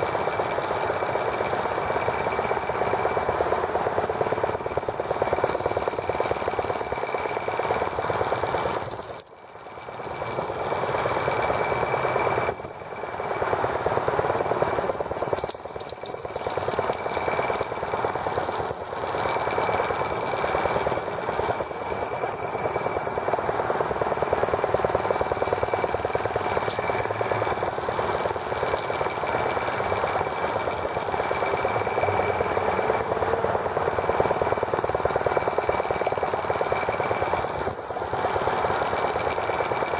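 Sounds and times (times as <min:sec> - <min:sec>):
small model engine rattling: 0:00.0 - 0:39.9.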